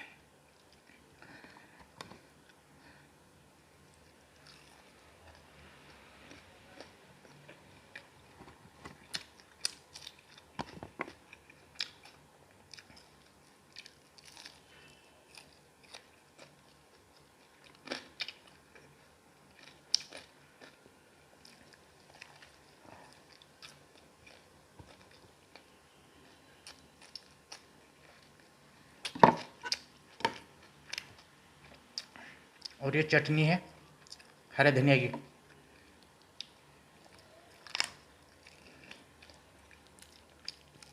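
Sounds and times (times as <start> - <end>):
person chewing: 3.9 - 28.5, 29.4 - 32.8, 35.4 - 40.9.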